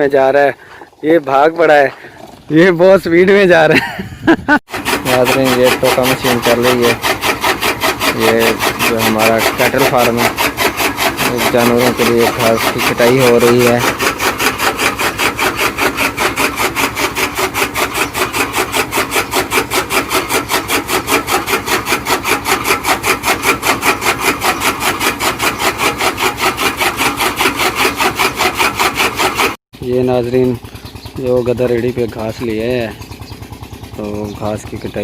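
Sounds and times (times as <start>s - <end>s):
chaff cutter chopping grass: 4.7s - 35.0s.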